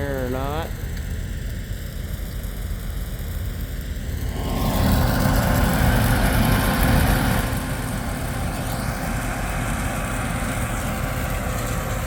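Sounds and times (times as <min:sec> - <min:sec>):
harvest machine engine running: 0:00.0 - 0:12.0.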